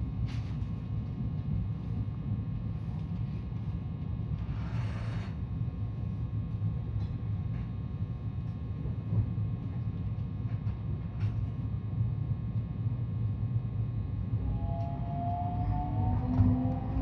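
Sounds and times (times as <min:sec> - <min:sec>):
train running low rumble: 0:00.0 - 0:17.0.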